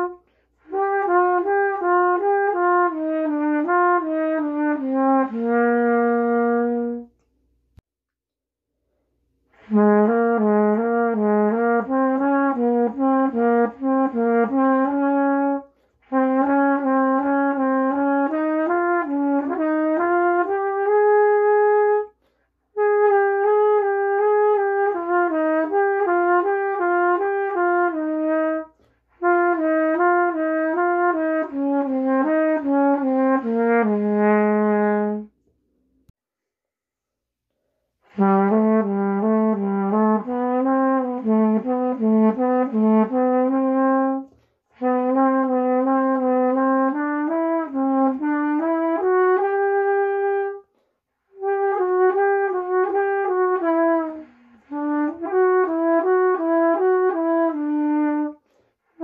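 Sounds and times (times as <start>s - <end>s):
solo trumpet melody: 0.0s - 7.3s, 9.5s - 35.5s, 38.0s - 59.0s.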